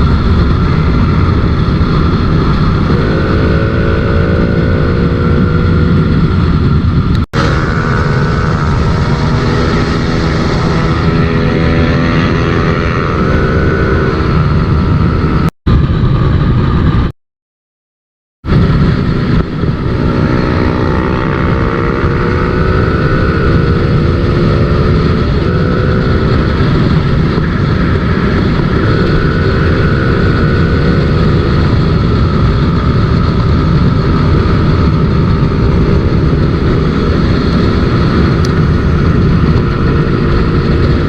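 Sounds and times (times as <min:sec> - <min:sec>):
motorcycle engine revving: 0:00.0 - 0:17.1, 0:18.4 - 0:41.0
wind and road rumble: 0:00.0 - 0:17.1, 0:18.4 - 0:41.0.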